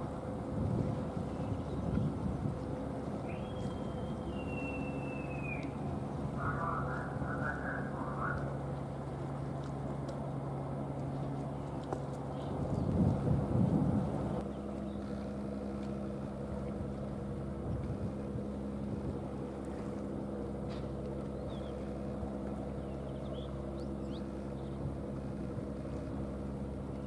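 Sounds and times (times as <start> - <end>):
diesel engines droning: 0.0 - 27.0.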